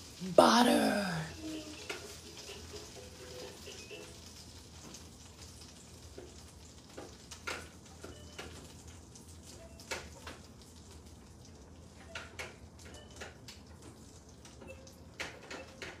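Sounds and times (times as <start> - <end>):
food sizzling in a pan: 0.0 - 15.5.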